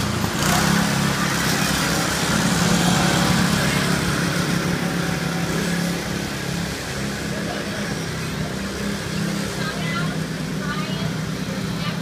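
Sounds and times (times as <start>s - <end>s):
go-kart engine buzzing: 0.0s - 12.0s.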